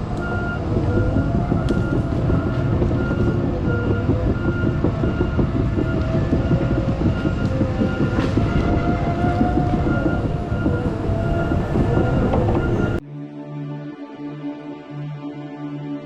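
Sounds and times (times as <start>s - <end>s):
diesel engine whine: 0.0s - 13.0s
loud machinery clatter: 0.0s - 13.0s
music: 0.0s - 16.0s.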